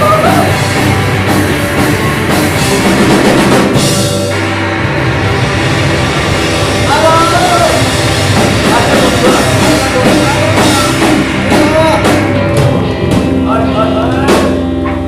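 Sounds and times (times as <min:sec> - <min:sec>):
bending melody line: 0:00.0 - 0:15.0
drum kit: 0:00.0 - 0:15.0
rock band playing loudly: 0:00.0 - 0:15.0.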